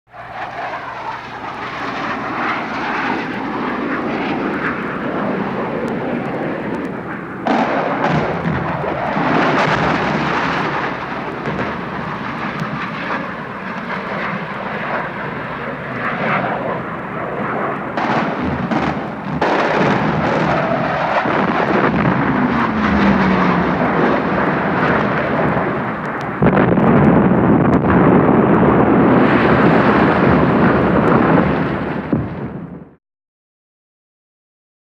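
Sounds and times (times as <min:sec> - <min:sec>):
falling aircraft whine: 0:00.1 - 0:32.1
jet engine roar: 0:00.1 - 0:33.0.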